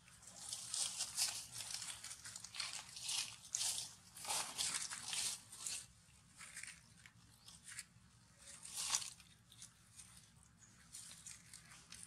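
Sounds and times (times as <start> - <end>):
dry leaves crackling and rustling: 0.2 - 7.8, 8.4 - 12.0.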